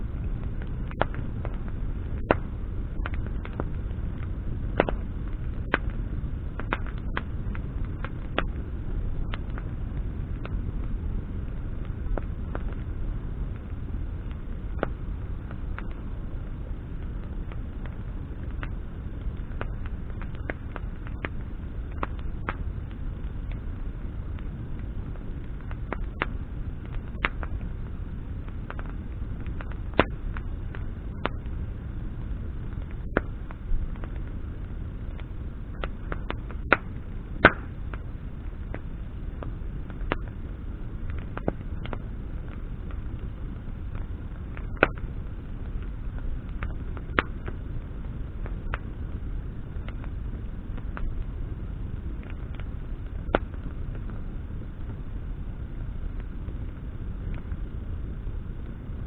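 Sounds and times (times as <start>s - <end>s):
branches crackling and popping: 0.0s - 59.0s
low rush of flames: 0.0s - 59.0s.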